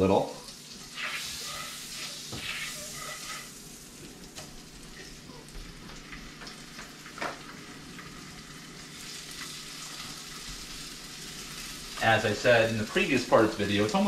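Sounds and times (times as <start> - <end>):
fish sizzling in a frying pan: 0.6 - 14.0.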